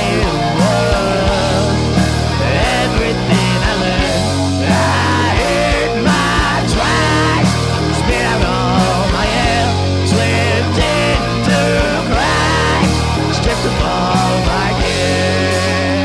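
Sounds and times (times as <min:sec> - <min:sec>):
lead guitar bending notes: 0:00.0 - 0:16.0
rock band playing live: 0:00.0 - 0:16.0.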